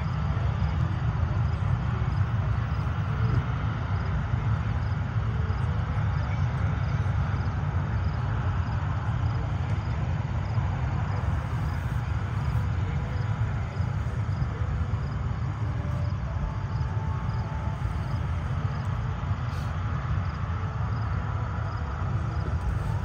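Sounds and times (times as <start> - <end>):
distant aircraft engines rumbling: 0.0 - 23.0.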